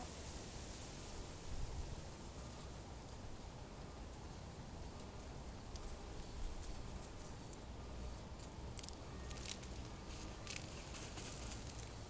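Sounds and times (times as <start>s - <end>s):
hens rustling in dry soil: 0.0s - 12.0s.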